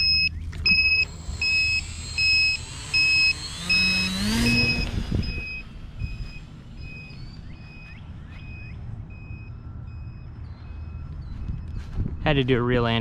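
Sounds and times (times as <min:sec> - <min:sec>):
electric motor whining: 0:00.0 - 0:12.2
transmitter alarm beeping: 0:00.0 - 0:13.0.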